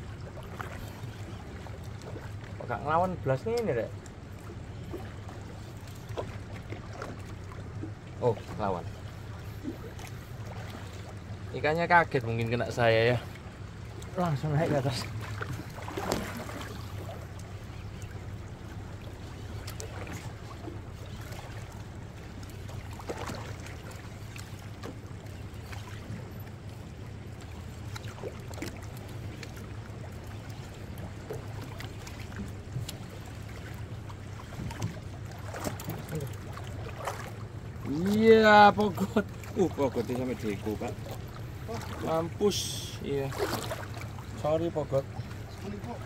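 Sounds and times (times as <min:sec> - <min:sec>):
boat engine idling: 0:00.0 - 0:46.0
water washing against hull: 0:00.0 - 0:46.0.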